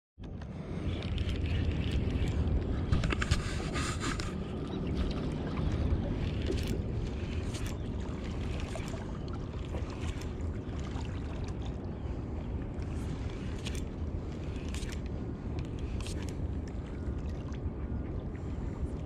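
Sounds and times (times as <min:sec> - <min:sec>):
wind buffeting microphone: 0:00.4 - 0:19.0.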